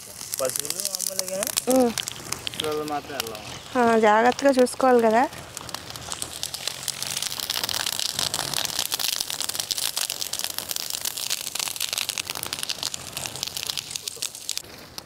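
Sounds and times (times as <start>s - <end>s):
fire crackling: 0.0s - 15.0s.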